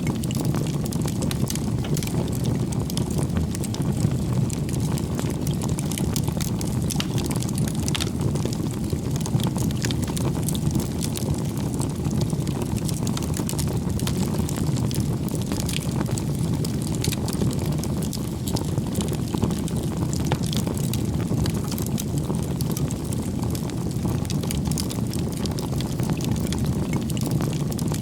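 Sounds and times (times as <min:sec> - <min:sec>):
firewood crackling and popping: 0:00.0 - 0:28.0
low rumble of flame: 0:00.0 - 0:28.0.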